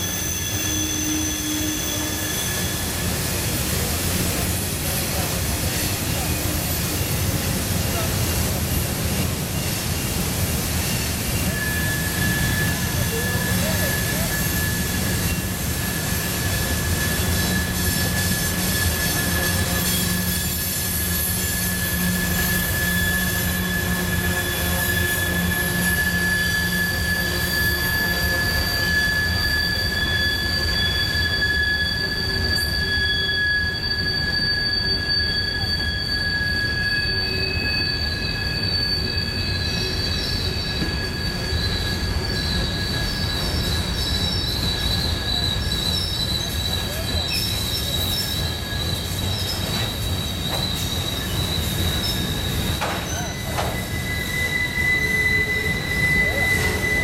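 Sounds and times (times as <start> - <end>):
low rumble of train wheels: 0.0 - 57.0
train wheel flanges squealing: 0.0 - 57.0.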